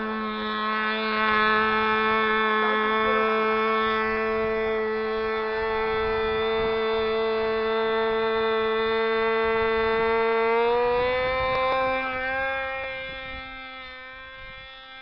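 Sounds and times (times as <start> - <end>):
model airplane motor and propeller: 0.0 - 15.0.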